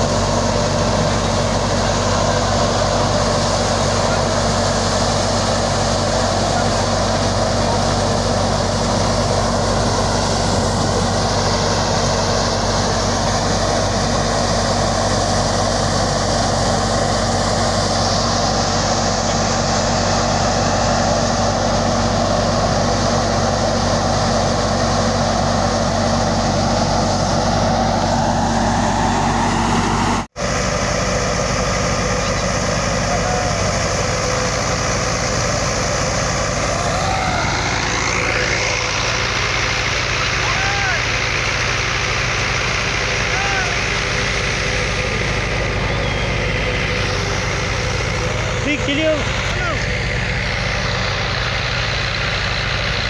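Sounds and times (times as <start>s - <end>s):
thresher mechanical drone: 0.0s - 53.0s
tractor engine hum: 0.0s - 53.0s.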